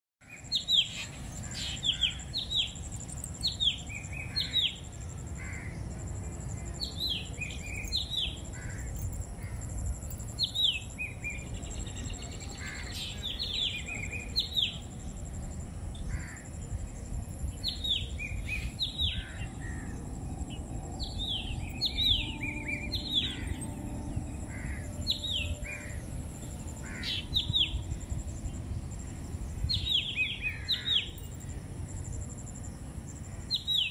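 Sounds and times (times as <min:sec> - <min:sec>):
birds chirping: 0:00.2 - 0:33.9
low steady rumble: 0:00.6 - 0:33.5.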